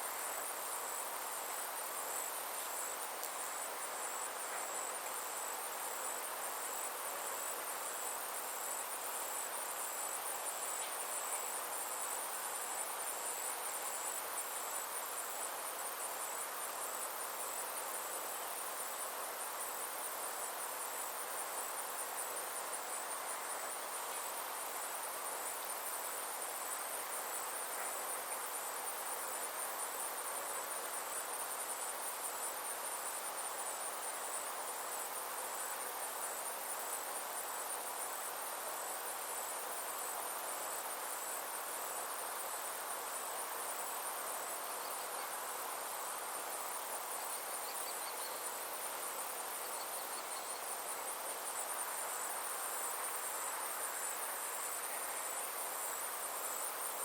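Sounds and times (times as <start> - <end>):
insects trilling: 0.0 - 57.0
soft background hiss: 0.0 - 57.0.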